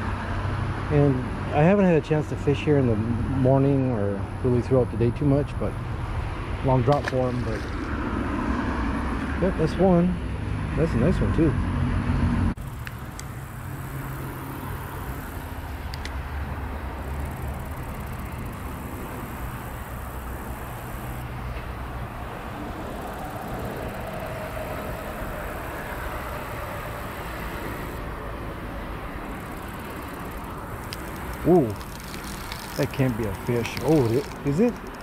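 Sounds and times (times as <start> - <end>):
low engine hum: 0.0 - 35.0
road traffic noise: 0.0 - 35.0.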